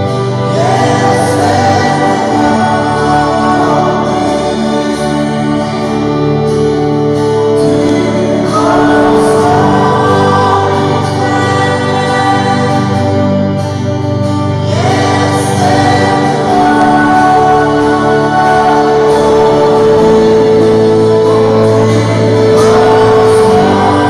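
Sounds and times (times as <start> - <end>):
electric keyboard: 0.0 - 24.0
guitar: 0.0 - 24.0
woman singing into a microphone: 0.4 - 5.8, 7.6 - 13.7, 14.6 - 24.0.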